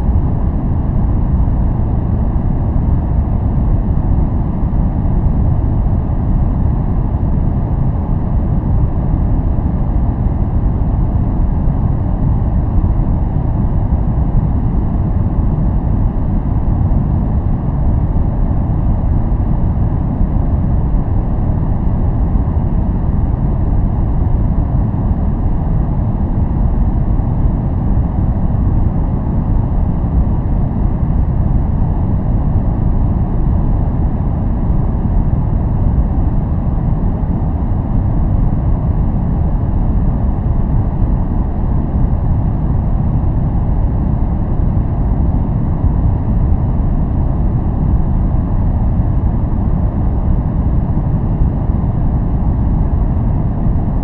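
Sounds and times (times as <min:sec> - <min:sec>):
deep white noise rush: 0:00.0 - 0:54.0.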